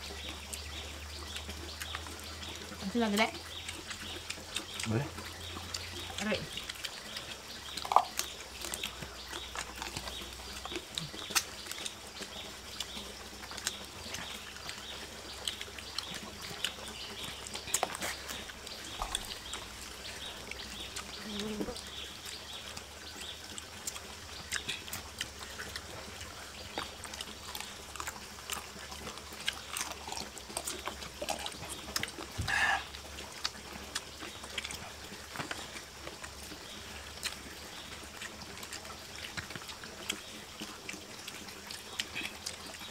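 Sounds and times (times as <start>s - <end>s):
chewing and lip-smacking: 0.0s - 42.9s
trickle of running water: 0.0s - 42.9s.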